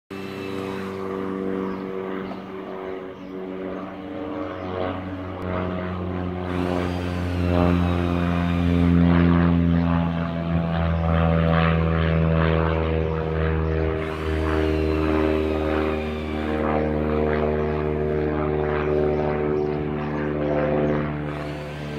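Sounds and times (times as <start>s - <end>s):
propeller aircraft engine droning: 0.1s - 21.9s.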